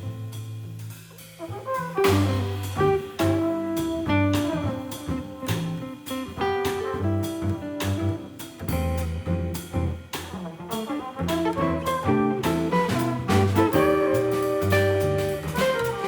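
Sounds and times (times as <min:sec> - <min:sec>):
drums and cymbals: 0:00.0 - 0:16.0
walking bass: 0:00.0 - 0:16.0
trombone melody: 0:01.4 - 0:09.6, 0:10.3 - 0:16.0
guitar: 0:01.5 - 0:16.0.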